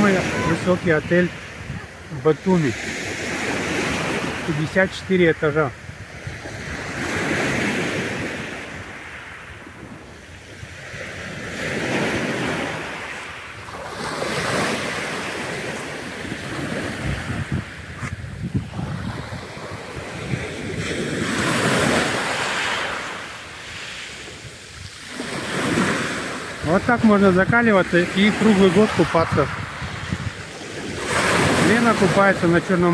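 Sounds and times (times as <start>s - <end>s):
wind buffeting microphone: 0.0s - 4.6s, 5.7s - 32.9s
waves breaking on shore: 0.0s - 32.9s.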